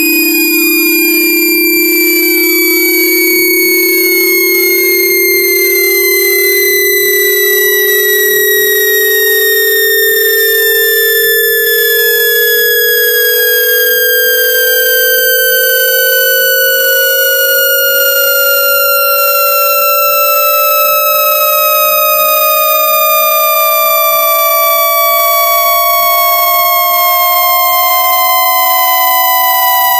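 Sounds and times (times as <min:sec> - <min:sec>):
falling high test tone: 0:00.0 - 0:29.9
rising low test tone: 0:00.0 - 0:29.9.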